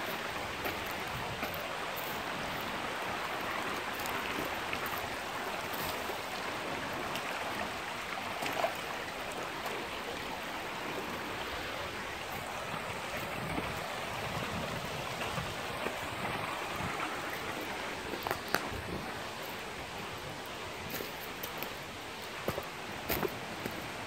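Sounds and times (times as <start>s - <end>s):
stream babbling over stones: 0.0s - 24.0s.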